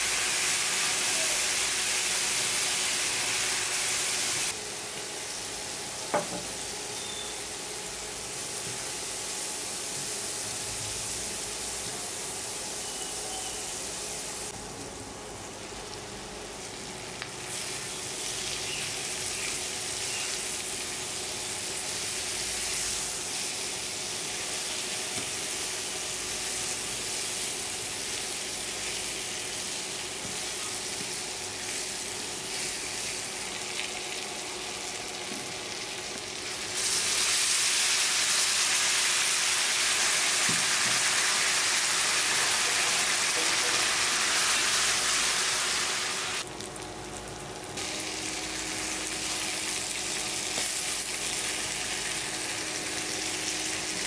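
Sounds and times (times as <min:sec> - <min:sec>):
food sizzling in oil: 0:00.0 - 0:14.6, 0:15.4 - 0:54.0.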